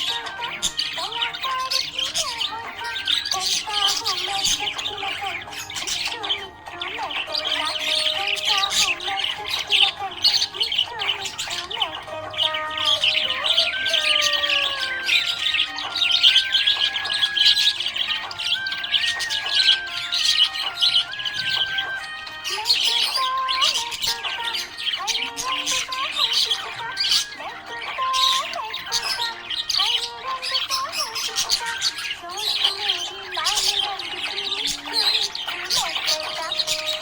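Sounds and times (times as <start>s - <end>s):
background music: 0.0s - 37.0s
budgerigars chirping and chattering: 0.0s - 37.0s.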